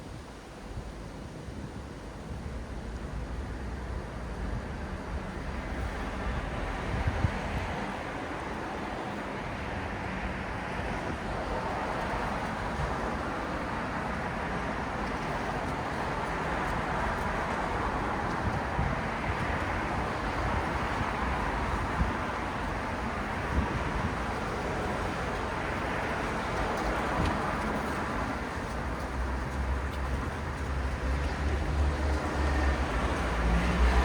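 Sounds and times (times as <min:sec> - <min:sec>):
low traffic rumble: 0:00.6 - 0:34.0
passing cars: 0:02.6 - 0:34.0.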